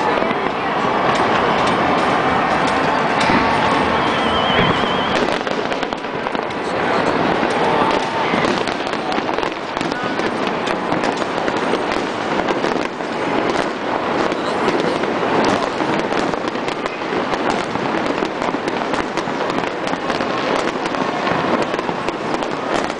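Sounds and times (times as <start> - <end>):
fireworks crackling: 0.0 - 22.9.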